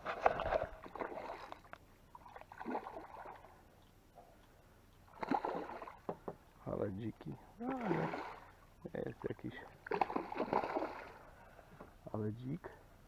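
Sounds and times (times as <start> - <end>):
water splashing and sloshing: 0.0 - 6.5, 7.6 - 11.8.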